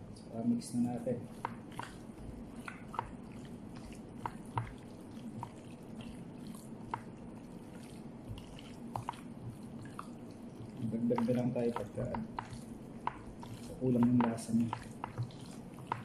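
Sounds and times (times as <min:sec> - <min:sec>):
steady low hum: 0:00.0 - 0:16.0
wet squelches of mixing meat: 0:00.0 - 0:16.0.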